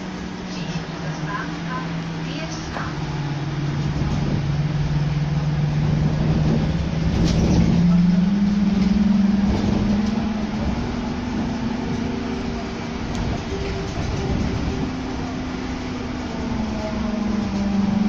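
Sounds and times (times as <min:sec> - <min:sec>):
body and tyres rumbling on road: 0:00.0 - 0:18.0.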